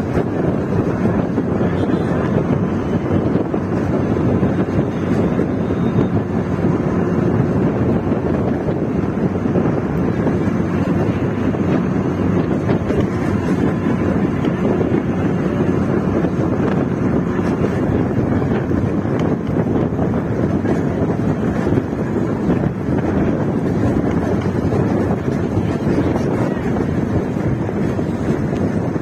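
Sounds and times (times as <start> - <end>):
vehicle road and engine noise: 0.0 - 29.0
wind buffeting microphone: 0.0 - 29.0.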